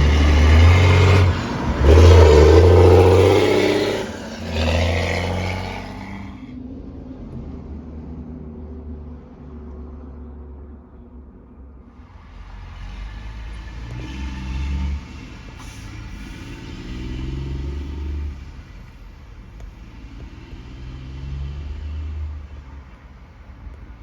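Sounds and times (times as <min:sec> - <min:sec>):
heavy truck engine rumbling: 0:00.0 - 0:09.3, 0:11.9 - 0:24.0.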